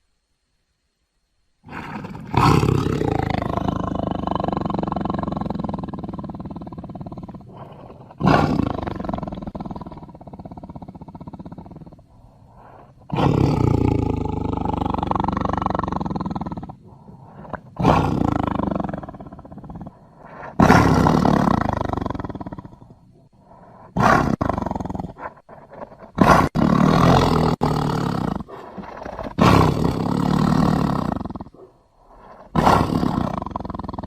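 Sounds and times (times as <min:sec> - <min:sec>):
tiger roaring: 0:01.6 - 0:34.0.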